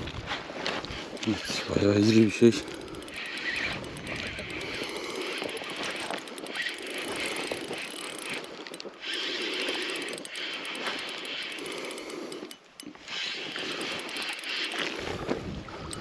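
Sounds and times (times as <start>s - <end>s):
fishing reel cranking: 0.7s - 16.0s.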